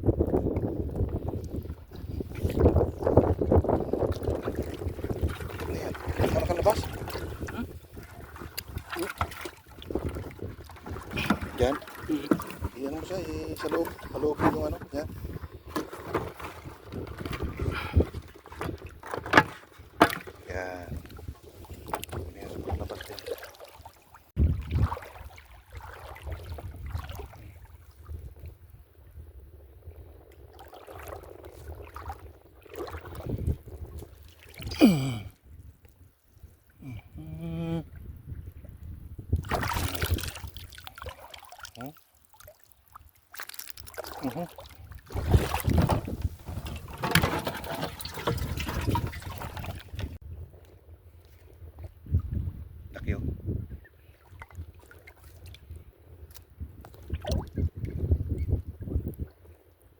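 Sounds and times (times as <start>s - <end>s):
wind rumbling on microphone: 0.0s - 23.2s, 24.3s - 41.2s, 44.2s - 59.9s
water sloshing and splashing: 0.0s - 28.5s, 30.2s - 37.0s, 39.3s - 50.2s, 54.1s - 59.5s.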